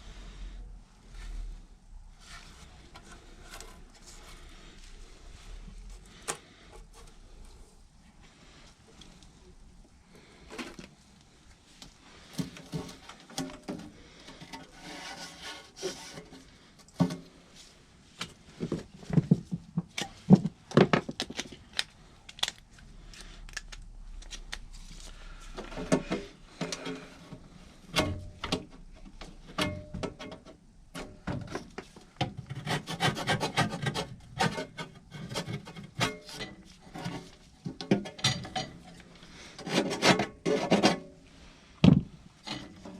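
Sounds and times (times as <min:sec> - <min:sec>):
scraping and rubbing on parts: 0:01.0 - 0:09.6, 0:10.2 - 0:21.7, 0:24.2 - 0:29.5, 0:30.2 - 0:41.6.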